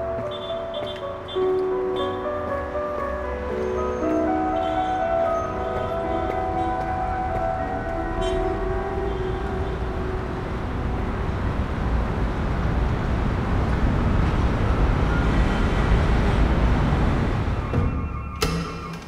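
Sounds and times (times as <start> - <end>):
road traffic rumble: 0.0 - 18.4.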